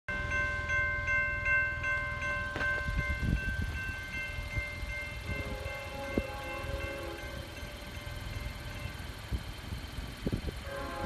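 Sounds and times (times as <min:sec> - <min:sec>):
crossing bell ringing: 0:00.1 - 0:11.0
freight train rumbling past: 0:00.1 - 0:11.0.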